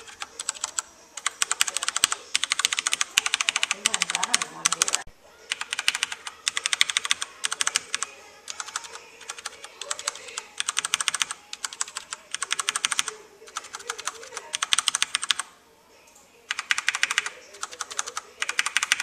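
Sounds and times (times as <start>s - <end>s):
mechanical keyboard typing: 0.0s - 15.5s, 16.5s - 19.0s.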